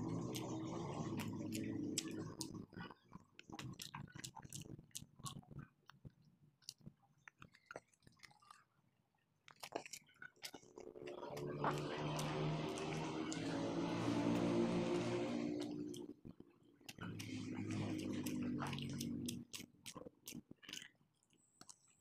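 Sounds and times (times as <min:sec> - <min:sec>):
child chewing food: 0:00.0 - 0:22.0.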